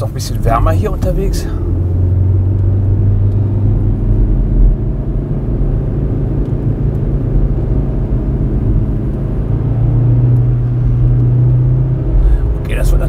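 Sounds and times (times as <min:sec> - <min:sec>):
car engine running: 0:00.0 - 0:13.0
low road rumble: 0:00.0 - 0:13.0.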